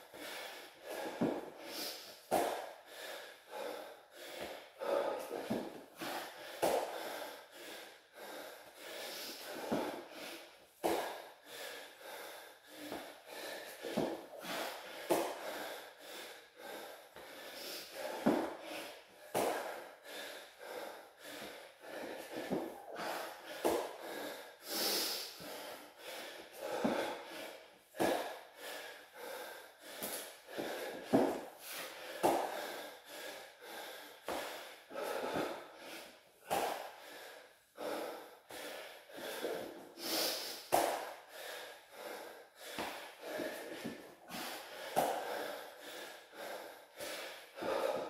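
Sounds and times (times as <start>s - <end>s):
man breathing heavily: 0.0s - 48.0s.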